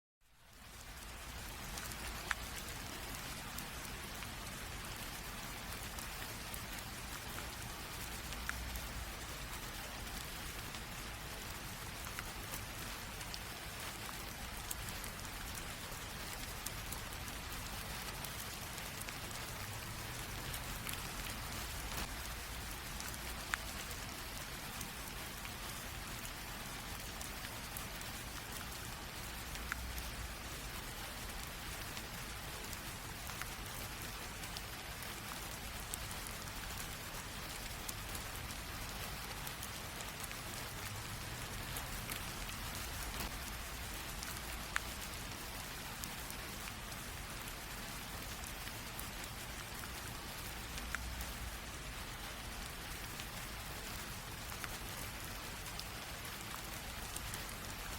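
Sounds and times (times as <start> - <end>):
light rain drizzle: 0.2 - 57.9
rain drop ticks: 0.4 - 57.9.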